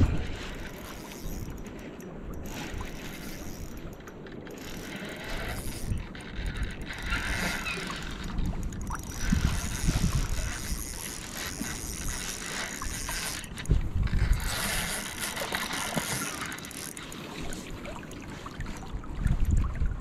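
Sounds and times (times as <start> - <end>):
fishing reel winding: 0.2 - 17.4.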